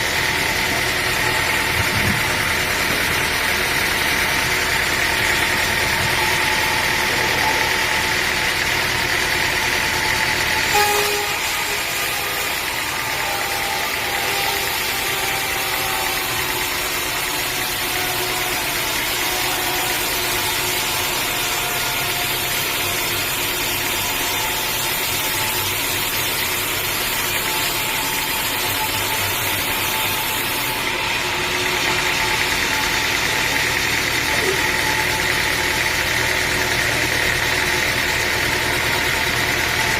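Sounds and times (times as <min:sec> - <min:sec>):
engine knock: 0:00.0 - 0:39.9
sawmill engine running: 0:00.0 - 0:39.9.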